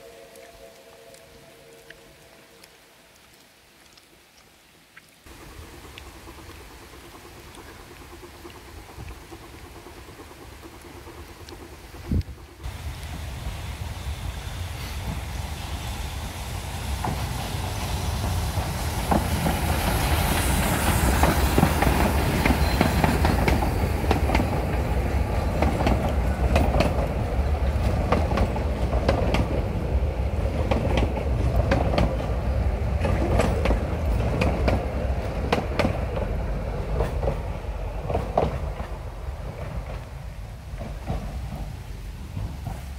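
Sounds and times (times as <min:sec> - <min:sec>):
train carriages rumbling: 0:05.3 - 0:42.9
wheels clicking on rail joints: 0:05.3 - 0:42.9.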